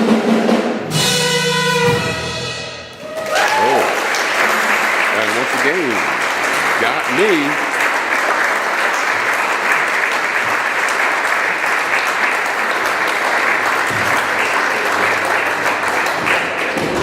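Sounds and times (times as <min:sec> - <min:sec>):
audience applauding and cheering: 0:02.9 - 0:17.0.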